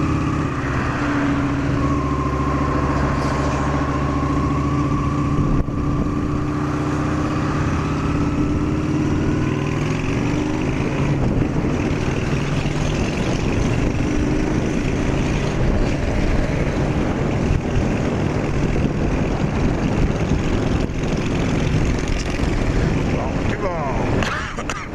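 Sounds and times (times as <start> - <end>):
motorcycle engine running under load: 3.9 - 24.2.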